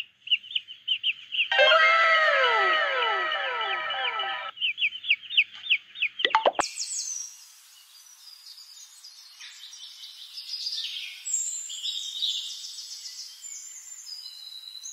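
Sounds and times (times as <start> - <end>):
small birds chirping and trilling: 0.0 - 14.9.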